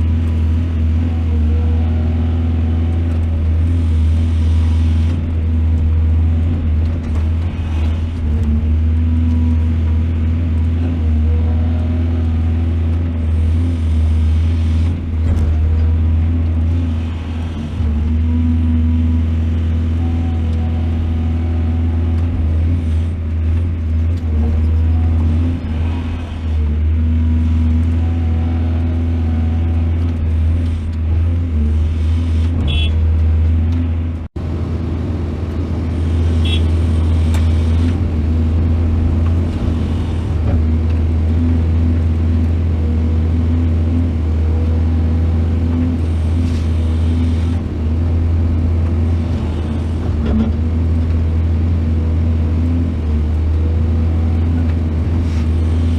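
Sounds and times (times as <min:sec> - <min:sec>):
heavy diesel engine droning: 0:00.0 - 0:55.9.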